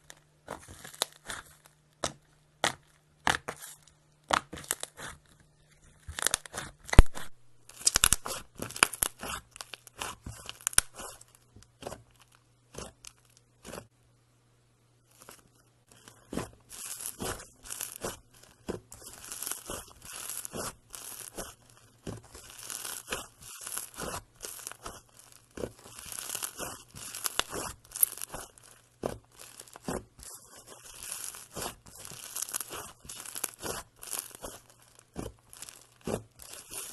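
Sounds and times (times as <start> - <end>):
slime crackling and popping: 0.0 - 5.2, 6.0 - 13.9, 15.1 - 36.9.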